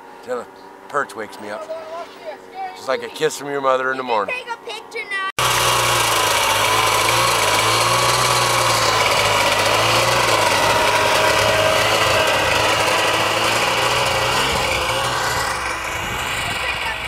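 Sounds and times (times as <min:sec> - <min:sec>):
small engine running: 0:00.3 - 0:17.0.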